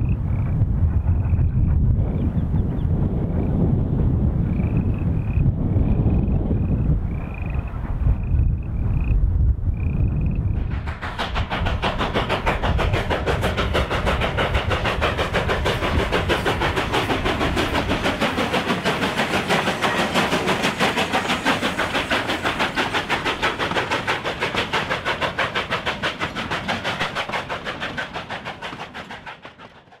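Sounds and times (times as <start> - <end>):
steam locomotive chuffing past: 0.0 - 30.0.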